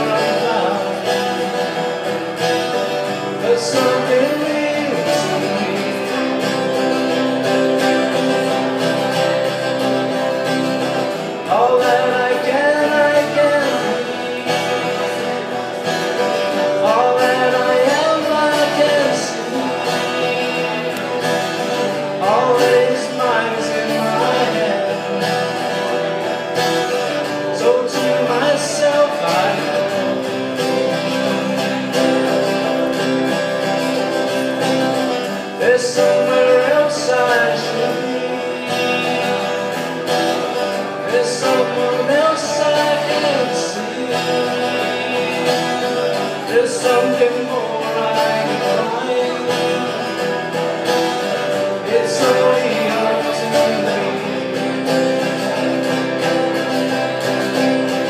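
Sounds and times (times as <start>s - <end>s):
acoustic guitars strummed and picked: 0.0s - 58.0s
man singing: 0.0s - 58.0s.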